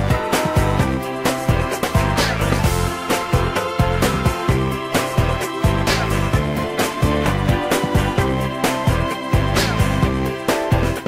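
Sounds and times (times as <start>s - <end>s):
instrumental pop backing track: 0.0s - 11.0s.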